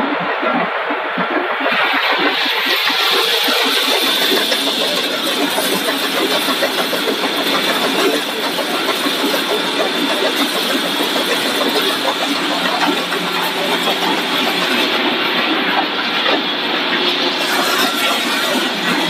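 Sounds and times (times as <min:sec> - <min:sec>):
factory machinery din: 0:00.0 - 0:19.0
high steady machine tone: 0:00.0 - 0:19.0.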